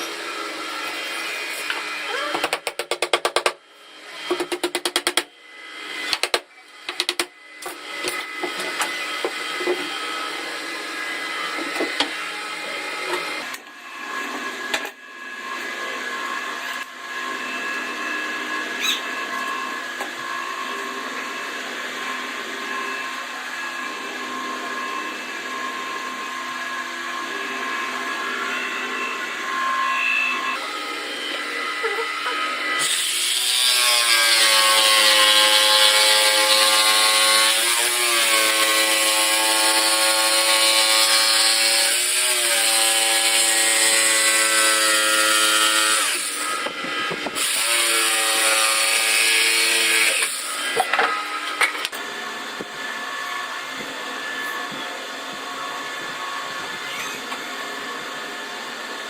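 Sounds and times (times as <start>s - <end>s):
handheld electric power tool: 0.0s - 59.0s.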